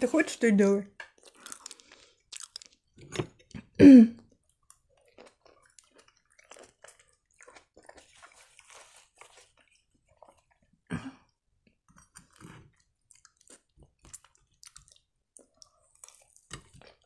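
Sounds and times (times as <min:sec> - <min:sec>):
person chewing food: 0:01.1 - 0:17.0.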